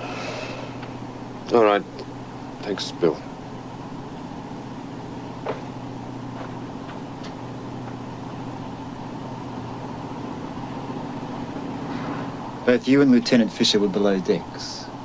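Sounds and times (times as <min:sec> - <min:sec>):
boat engines droning: 0:00.0 - 0:15.0.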